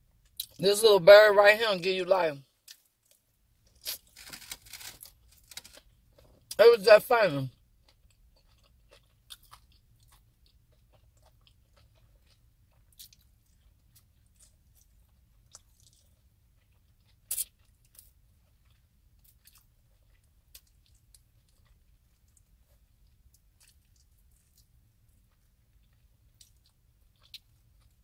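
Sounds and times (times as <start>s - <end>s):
person chewing crunchy meat: 2.6s - 6.6s, 7.5s - 28.0s.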